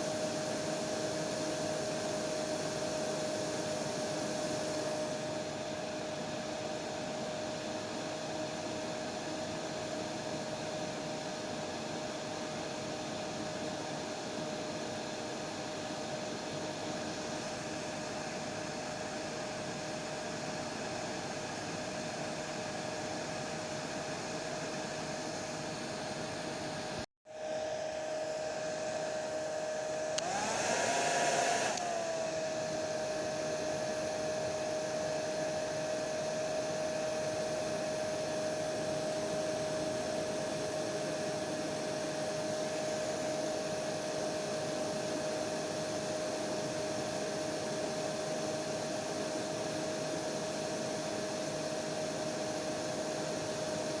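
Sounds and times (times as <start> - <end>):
hair dryer blowing with whine: 0.0 - 54.0.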